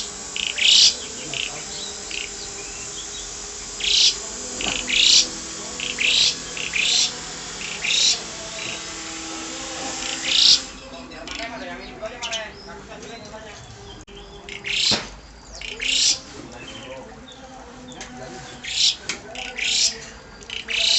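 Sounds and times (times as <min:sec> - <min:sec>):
starling whistled calls: 0:00.0 - 0:20.9.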